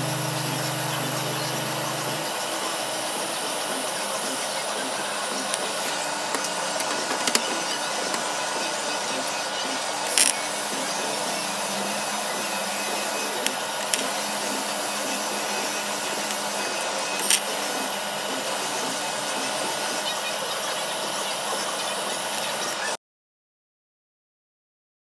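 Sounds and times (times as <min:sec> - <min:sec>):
welding arc hissing: 0:00.0 - 0:22.8.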